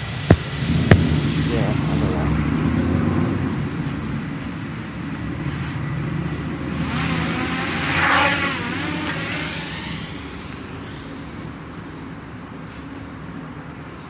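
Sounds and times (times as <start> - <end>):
quadcopter motors whining: 0.0 - 12.4
rush of air from propellers: 0.0 - 12.4.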